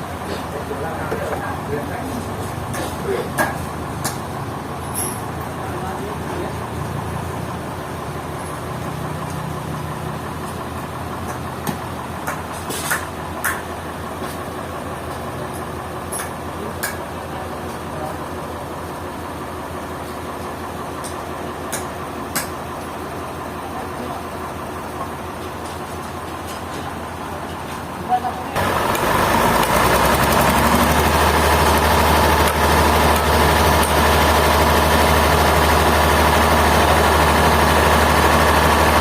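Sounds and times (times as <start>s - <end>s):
machinery engine idling: 0.0s - 39.0s.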